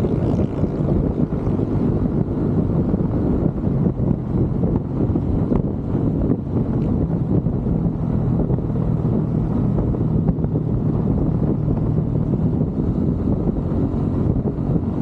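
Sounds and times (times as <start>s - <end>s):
motorcycle engine cruising: 0.0s - 15.0s
wind buffeting microphone: 0.0s - 15.0s.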